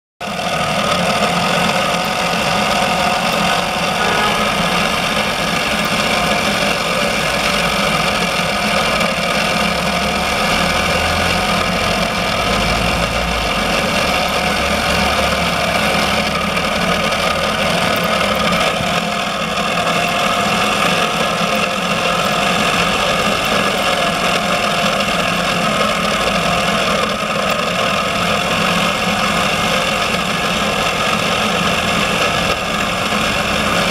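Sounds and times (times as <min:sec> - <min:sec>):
model engine mechanical whir: 0:00.2 - 0:33.9.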